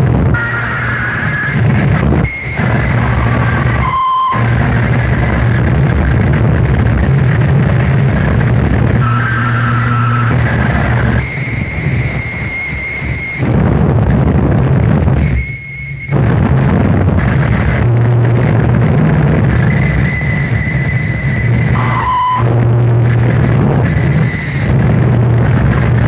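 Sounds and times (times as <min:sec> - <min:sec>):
high feedback tones: 0:00.0 - 0:06.3, 0:08.8 - 0:13.7, 0:15.0 - 0:26.0
distorted noise music: 0:00.0 - 0:26.0
heavy low hum: 0:00.0 - 0:26.0.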